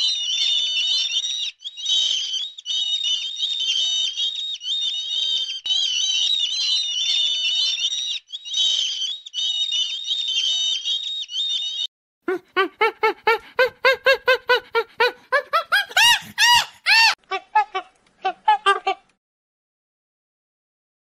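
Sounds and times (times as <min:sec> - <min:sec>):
seabirds calling: 0:00.0 - 0:11.9, 0:12.7 - 0:19.0.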